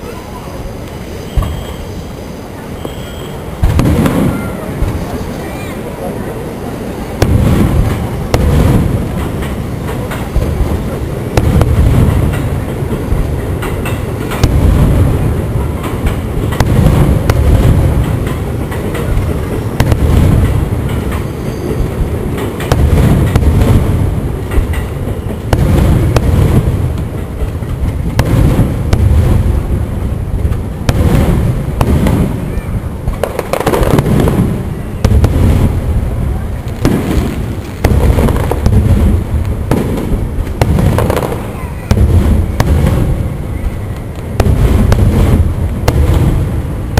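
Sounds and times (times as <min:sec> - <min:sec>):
firework shells bursting: 0:02.8 - 0:05.1, 0:07.1 - 0:46.9.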